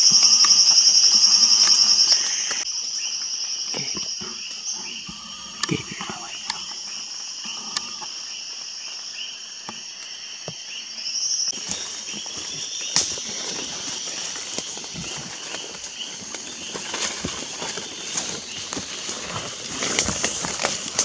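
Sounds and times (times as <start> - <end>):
insect chorus buzzing and trilling: 0.0 - 21.0
pulsing insect call: 0.0 - 21.0.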